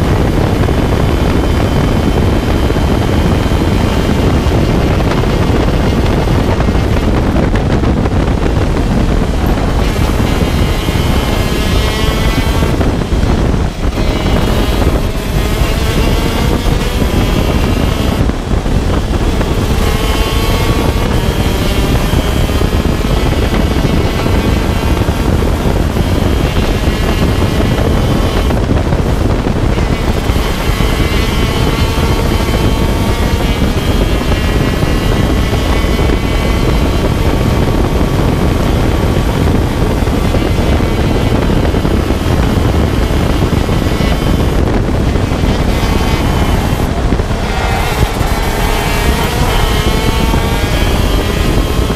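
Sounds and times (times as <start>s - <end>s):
kart engine revving: 0.0s - 51.9s
wind rumble on microphone: 0.0s - 51.9s.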